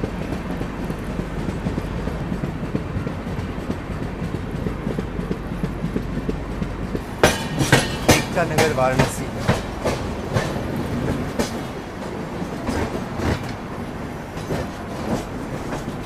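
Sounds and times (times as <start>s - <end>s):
sharp wheel clacks: 0.0s - 13.6s
train rumble: 0.0s - 16.0s.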